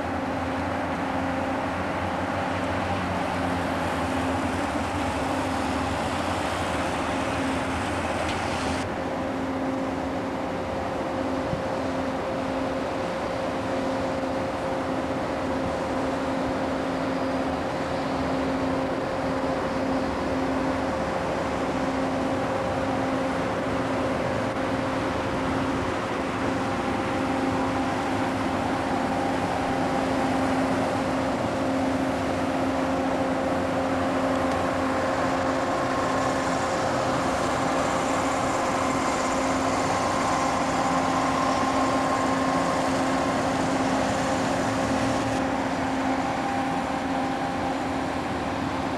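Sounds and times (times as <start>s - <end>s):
noisy rush: 0.0s - 48.9s
steady mechanical hum: 0.0s - 48.9s.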